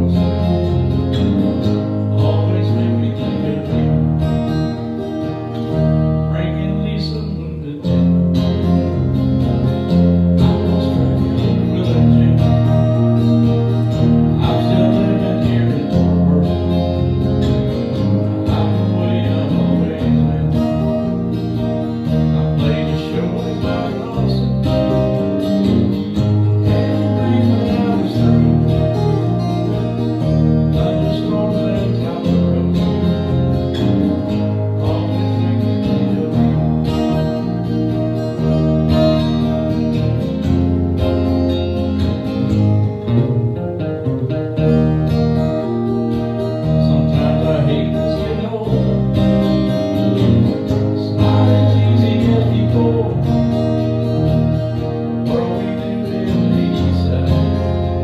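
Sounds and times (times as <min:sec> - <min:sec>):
bass line: 0:00.0 - 0:58.0
strummed acoustic guitars: 0:00.0 - 0:58.0.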